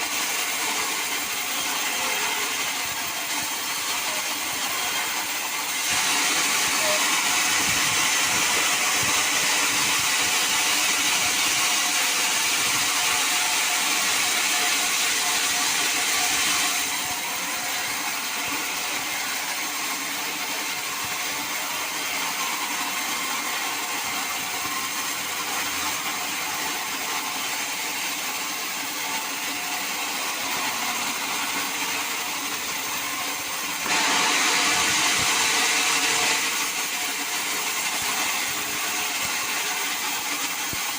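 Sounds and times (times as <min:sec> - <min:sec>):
sawmill saw cutting wood: 0:00.0 - 0:40.9.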